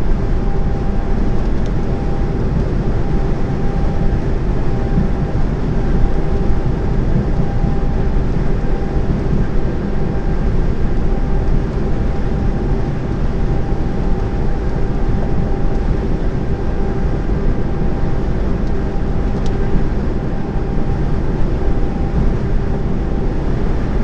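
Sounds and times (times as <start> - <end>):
lorry engine drone: 0.0 - 24.0.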